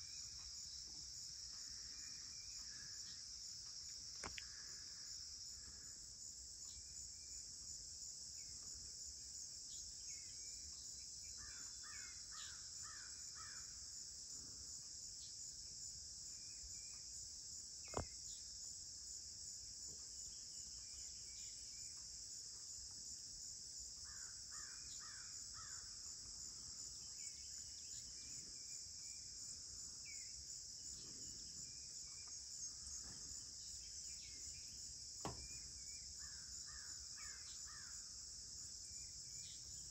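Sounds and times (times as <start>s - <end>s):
crickets and insects droning: 0.0s - 39.9s.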